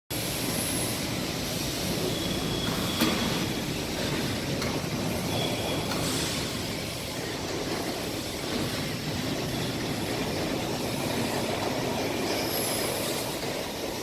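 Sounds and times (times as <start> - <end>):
machinery noise: 0.1 - 14.0.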